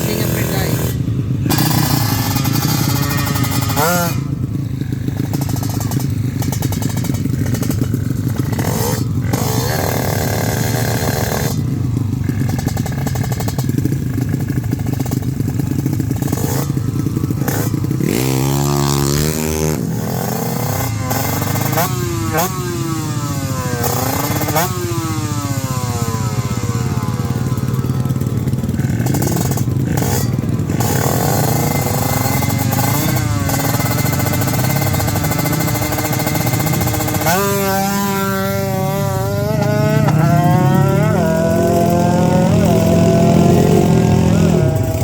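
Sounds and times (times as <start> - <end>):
motorcycle engines screaming: 0.0 - 45.0.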